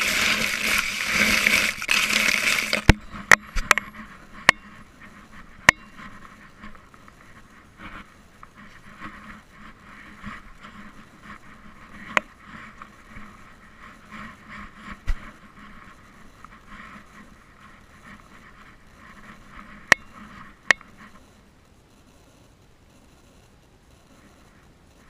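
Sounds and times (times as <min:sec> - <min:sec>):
scraping and rubbing on camera: 0:00.0 - 0:25.0.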